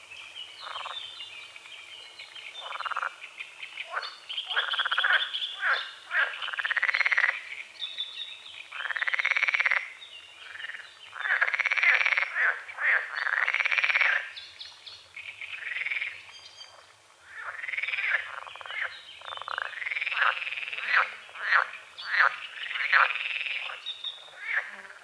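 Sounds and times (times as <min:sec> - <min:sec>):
frogs croaking: 0:00.6 - 0:01.2, 0:02.5 - 0:07.6, 0:08.7 - 0:14.5, 0:15.2 - 0:25.0.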